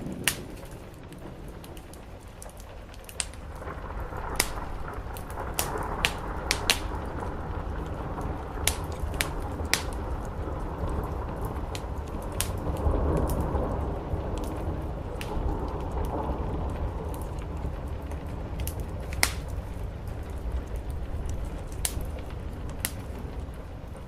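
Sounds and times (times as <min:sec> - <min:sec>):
low rumble: 0:00.0 - 0:24.0
rain on a roof: 0:00.0 - 0:24.0
wood fire crackling: 0:00.0 - 0:24.0.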